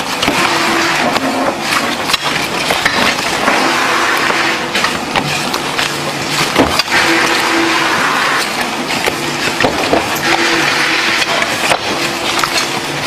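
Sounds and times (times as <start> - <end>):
noisy workshop background: 0.0 - 13.0.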